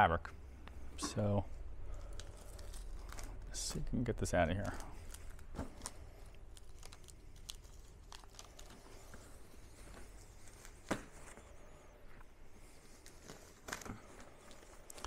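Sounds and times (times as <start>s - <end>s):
plastic package rustling: 1.8s - 11.9s, 12.6s - 15.0s.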